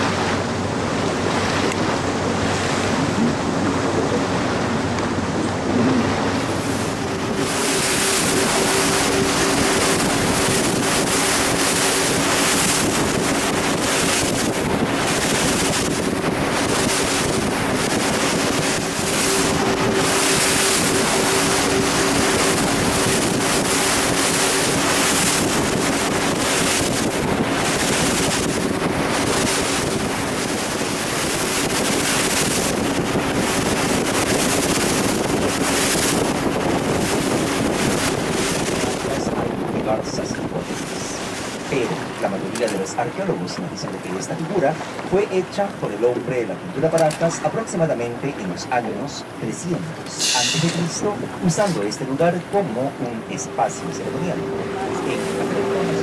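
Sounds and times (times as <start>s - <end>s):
motorboat engine droning: 0.0s - 56.0s
wind gusting on microphone: 0.0s - 56.0s.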